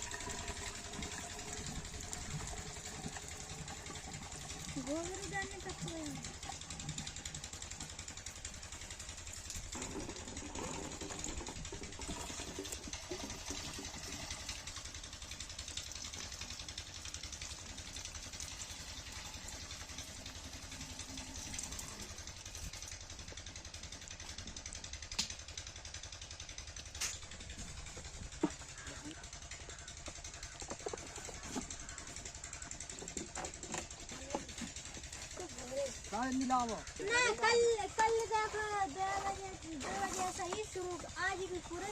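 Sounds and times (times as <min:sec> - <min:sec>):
diesel engine chugging: 0:00.0 - 0:41.9.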